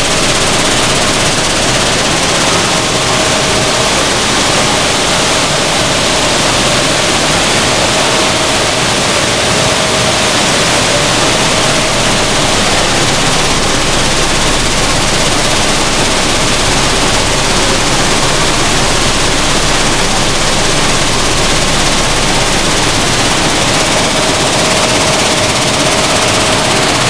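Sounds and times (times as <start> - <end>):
machinery rushing noise: 0.0 - 27.0.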